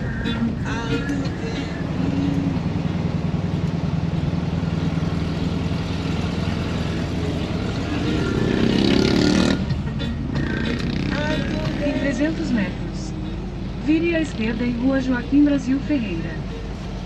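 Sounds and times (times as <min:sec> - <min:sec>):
van engine and road hum: 0:00.0 - 0:17.0.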